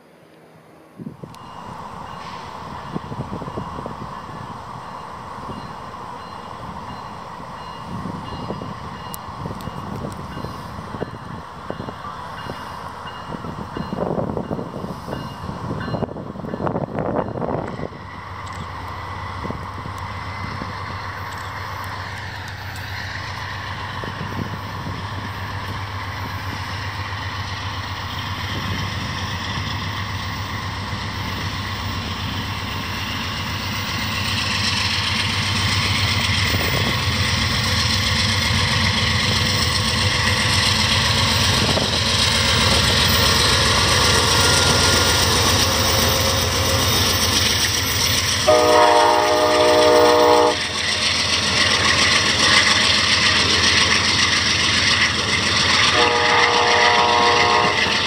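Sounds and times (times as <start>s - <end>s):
diesel locomotive engine drone: 0.0s - 58.0s
train wheels on rails: 1.0s - 58.0s.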